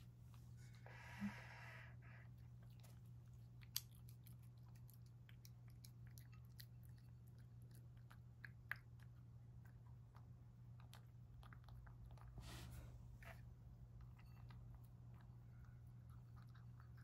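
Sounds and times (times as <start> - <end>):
cat chewing food: 2.0 - 17.0.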